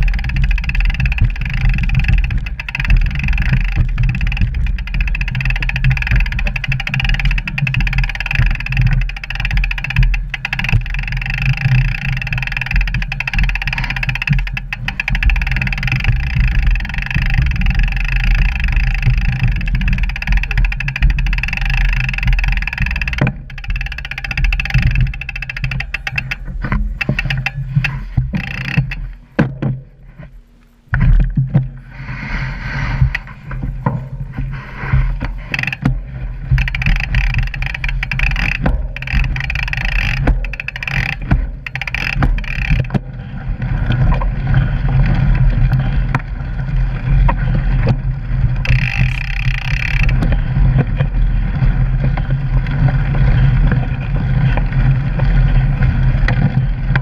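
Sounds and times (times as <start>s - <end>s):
bike rattling and knocking: 0.0s - 30.2s, 32.9s - 57.0s
wind noise: 0.0s - 57.0s.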